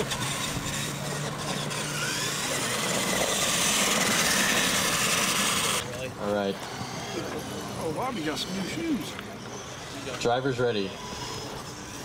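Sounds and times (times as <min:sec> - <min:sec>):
toy truck motor and tyres: 0:00.0 - 0:12.0.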